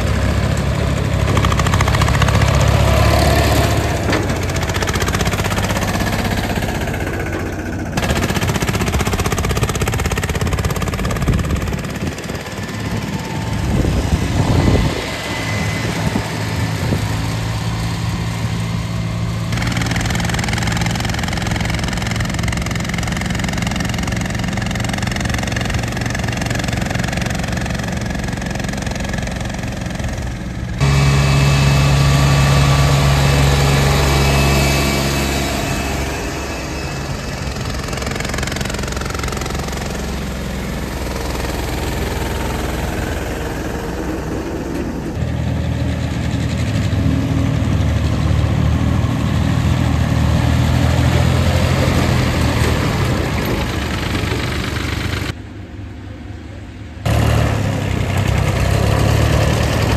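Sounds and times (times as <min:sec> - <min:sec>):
diesel tractor engines running: 0:00.0 - 0:59.9.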